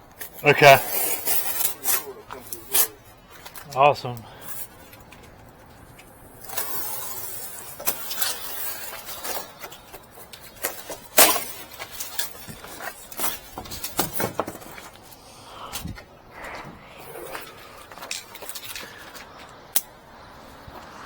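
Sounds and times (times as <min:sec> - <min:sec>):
rustling and scraping handling noise: 0:00.0 - 0:20.0.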